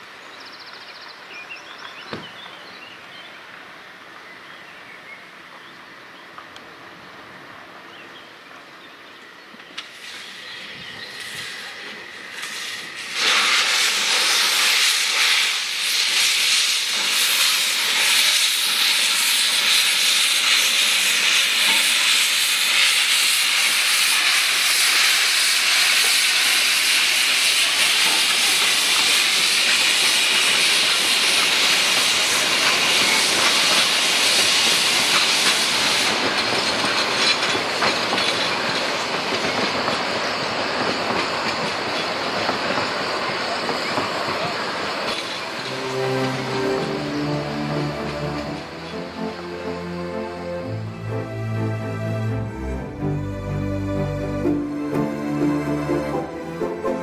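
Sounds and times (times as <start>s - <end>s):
steam locomotive hissing steam: 9.8s - 57.0s.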